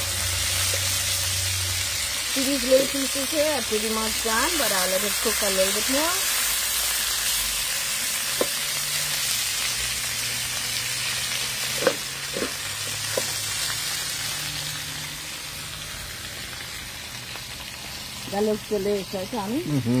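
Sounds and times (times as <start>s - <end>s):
chicken sizzling in frying pan: 0.0s - 20.0s.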